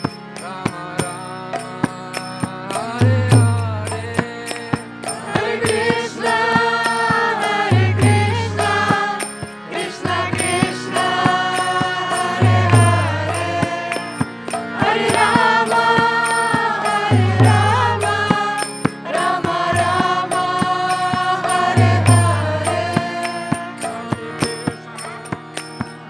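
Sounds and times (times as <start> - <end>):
voices chanting: 4.9 - 26.0.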